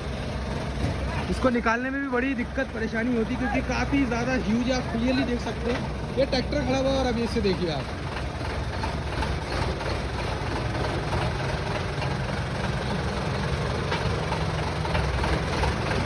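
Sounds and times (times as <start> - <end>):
truck engine running at low revs: 0.0 - 16.0.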